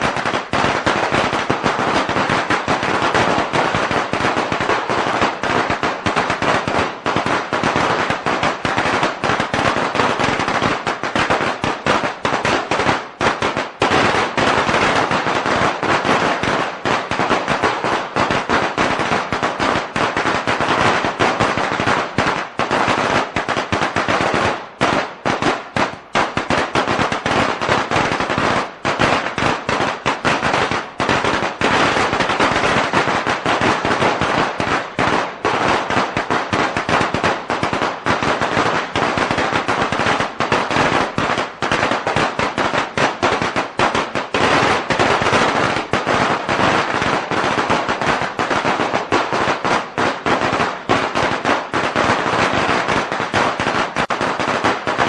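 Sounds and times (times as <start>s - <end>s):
firecrackers going off: 0.0s - 55.0s.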